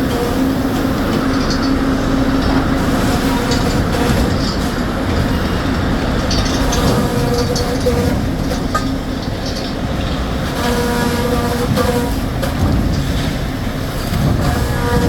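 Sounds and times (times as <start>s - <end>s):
sawmill machinery din: 0.0s - 15.0s
scattered clattering: 0.0s - 15.0s.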